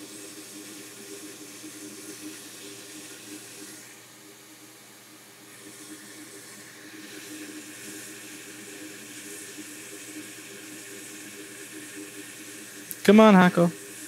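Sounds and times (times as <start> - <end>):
hot air blower hissing: 0.0 - 14.0.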